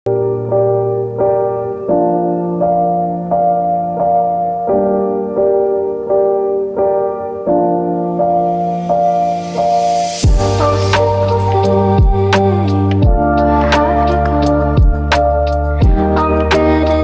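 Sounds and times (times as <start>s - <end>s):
slow piano chords: 0.1s - 17.0s.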